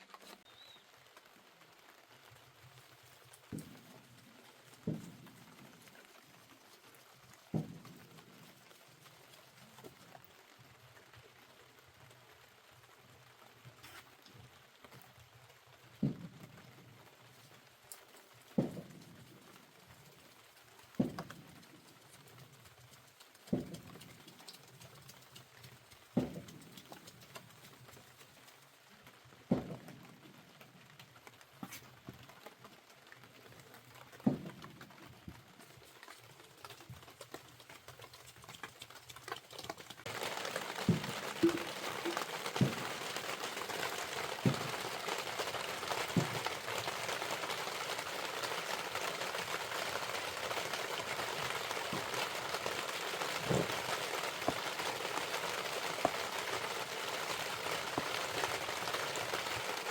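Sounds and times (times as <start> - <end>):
rain on a surface: 0.0 - 59.9.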